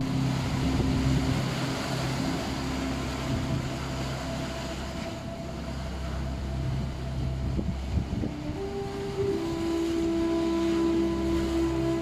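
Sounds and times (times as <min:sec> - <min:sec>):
low meditation music drone: 0:00.0 - 0:12.0
waves breaking over rocks: 0:00.0 - 0:12.0.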